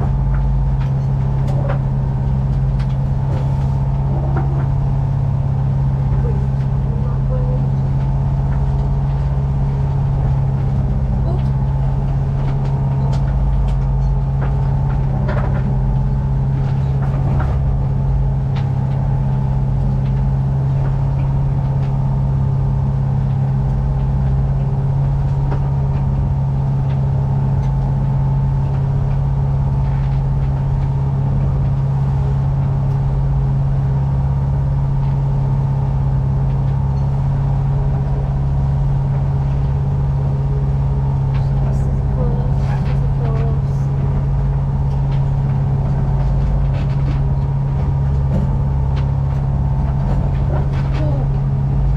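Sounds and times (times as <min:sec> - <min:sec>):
boat engine droning: 0:00.0 - 0:51.9.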